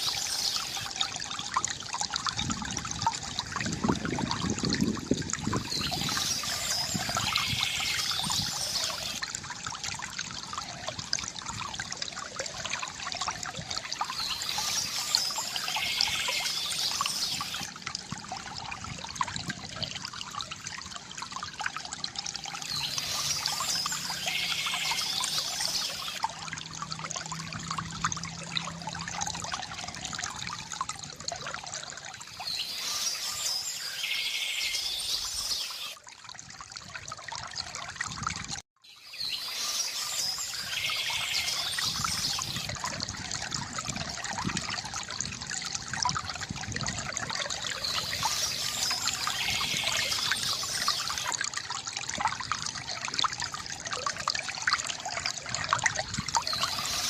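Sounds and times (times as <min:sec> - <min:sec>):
fountain water trickling and splashing: 0:00.0 - 0:57.0.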